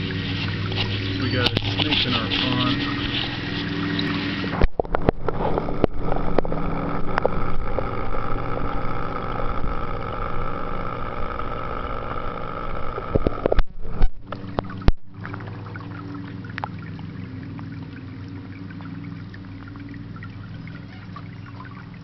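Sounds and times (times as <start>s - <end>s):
underwater pump motor hum: 0.0s - 22.0s.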